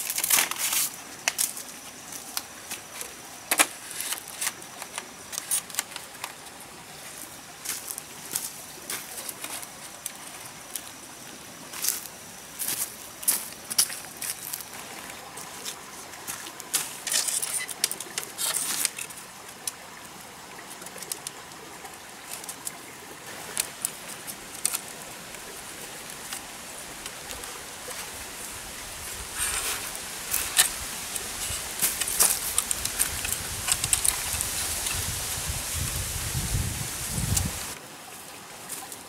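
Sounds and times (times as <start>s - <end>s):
rustling and crackling: 0.0s - 11.0s, 11.7s - 19.8s, 22.2s - 36.3s
steady background hiss: 0.0s - 39.0s.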